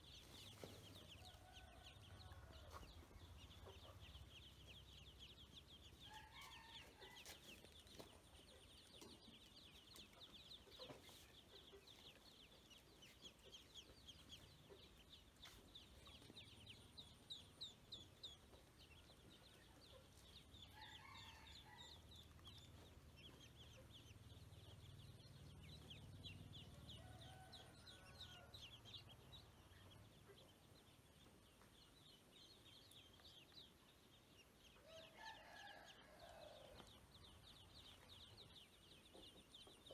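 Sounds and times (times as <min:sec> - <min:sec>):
ducklings peeping: 0:02.6 - 0:34.8.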